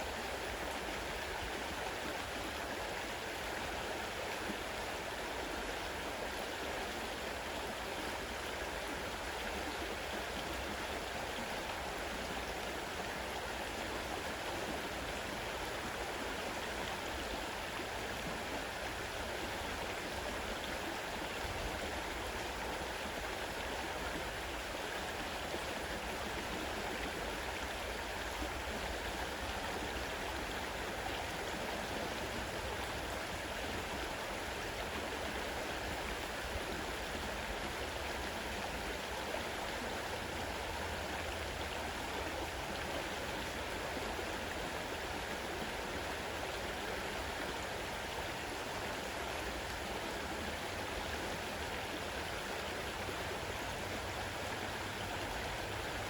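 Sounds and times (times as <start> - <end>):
fast river water rushing: 0.0 - 56.0.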